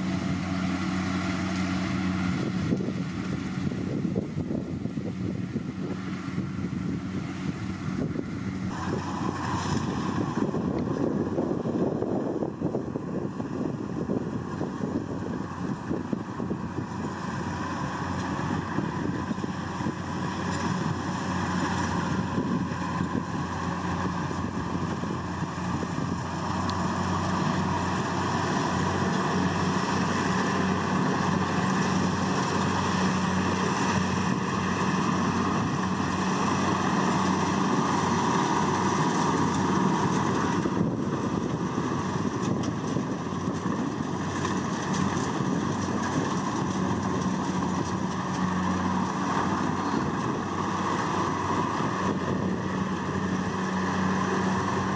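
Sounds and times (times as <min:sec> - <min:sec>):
combine harvester engine running: 0:00.0 - 0:54.9.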